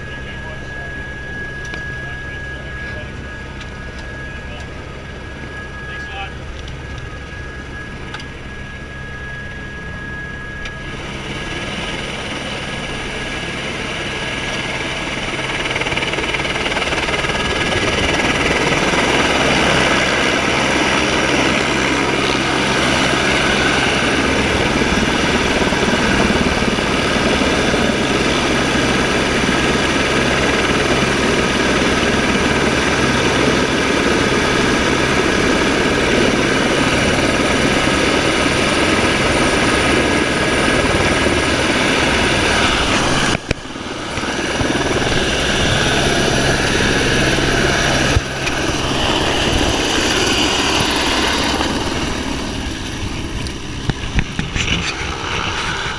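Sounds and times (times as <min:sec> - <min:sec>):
helicopter turbine and rotor: 0:00.0 - 0:55.9.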